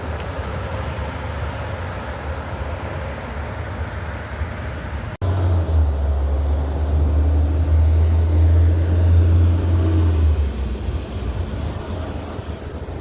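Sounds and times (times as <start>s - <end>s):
heavy truck engine rumble: 0.0s - 13.0s
light road noise: 0.0s - 13.0s.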